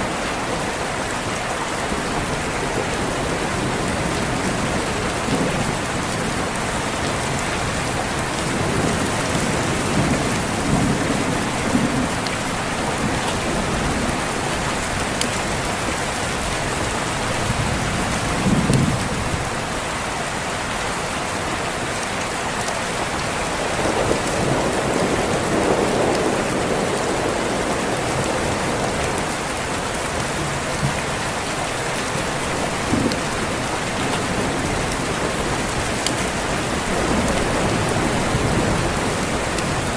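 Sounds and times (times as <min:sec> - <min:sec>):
heavy rain: 0:00.0 - 0:39.9
thunder rumbling: 0:01.8 - 0:19.6, 0:23.5 - 0:39.9.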